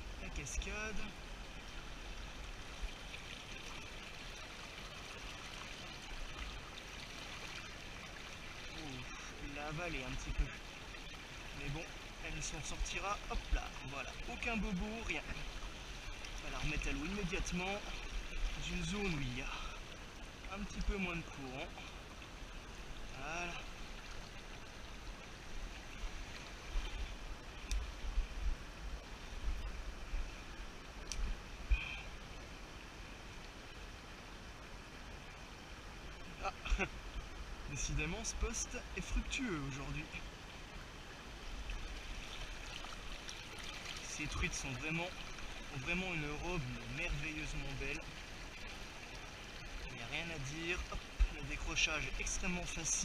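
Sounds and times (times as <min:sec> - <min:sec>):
stream rushing over stones: 0:00.0 - 0:53.0.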